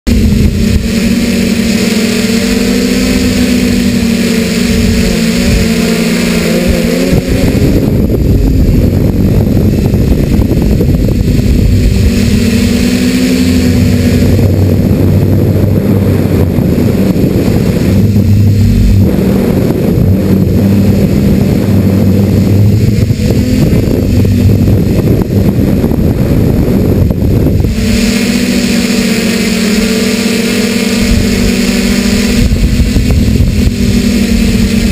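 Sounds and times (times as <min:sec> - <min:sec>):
drone propellers buzzing: 0:00.0 - 0:34.9
wind rushing over microphone: 0:00.0 - 0:34.9.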